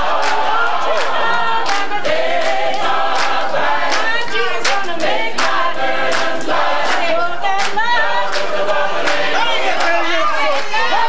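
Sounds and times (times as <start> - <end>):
gospel choir singing: 0.0 - 11.0
sharp hand claps: 0.1 - 10.9.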